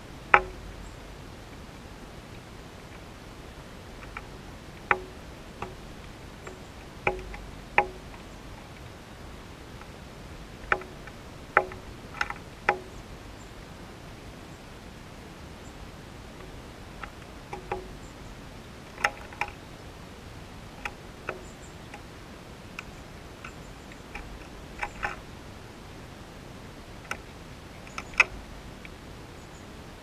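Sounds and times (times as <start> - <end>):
outdoor hiss: 0.0 - 30.0
bird pecking ticks: 0.1 - 13.7, 15.6 - 19.6, 20.4 - 25.4, 27.0 - 29.1.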